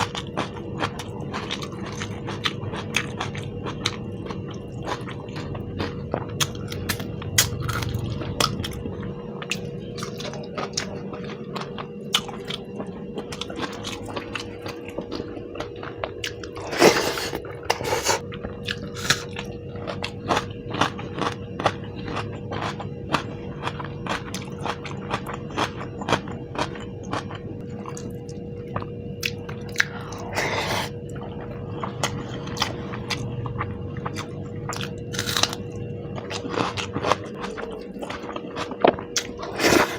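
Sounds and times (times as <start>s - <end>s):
chewing and biting: 0.0s - 39.9s
faint steady hum: 0.0s - 39.9s.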